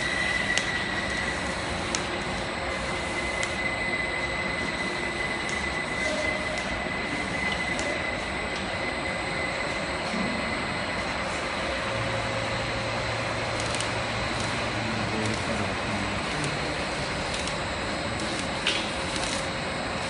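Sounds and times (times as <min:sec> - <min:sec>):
high-pitched whine: 0:00.0 - 0:20.0
machine mechanical hum: 0:00.0 - 0:20.0.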